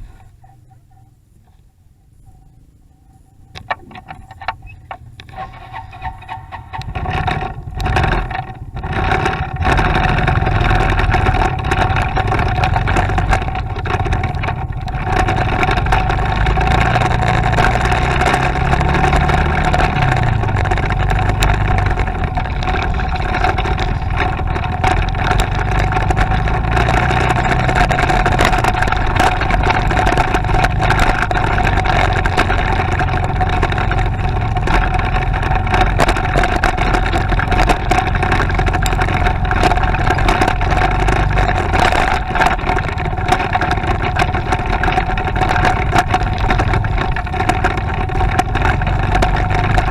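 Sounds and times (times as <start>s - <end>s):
motorcycle engine running: 0.0s - 49.9s
steady whine: 0.0s - 49.9s.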